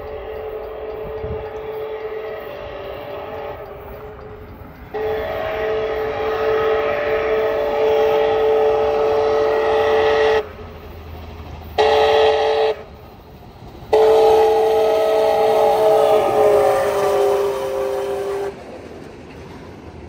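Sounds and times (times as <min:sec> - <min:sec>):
steam locomotive chime whistle: 0:00.0 - 0:10.6, 0:11.6 - 0:13.0, 0:13.9 - 0:18.6.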